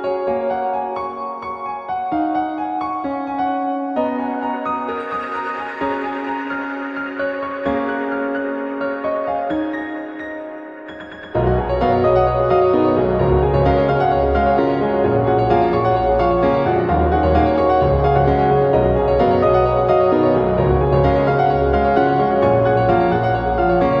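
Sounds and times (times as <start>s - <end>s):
piano music with bass line: 0.0s - 24.0s.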